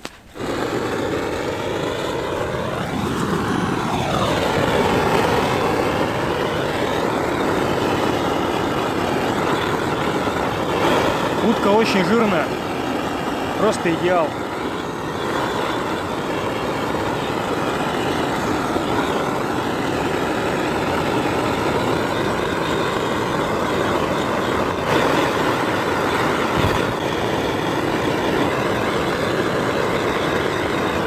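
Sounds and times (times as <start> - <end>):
gas torch hissing: 0.0 - 31.0.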